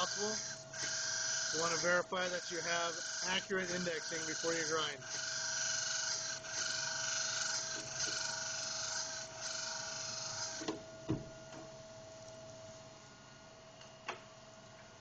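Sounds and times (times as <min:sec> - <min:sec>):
grinder machinery hiss and hum: 0:00.0 - 0:15.0.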